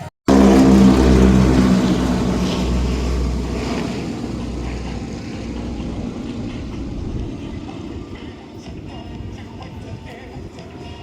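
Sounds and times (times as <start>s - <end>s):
propeller airplane engine droning: 0.0s - 10.7s.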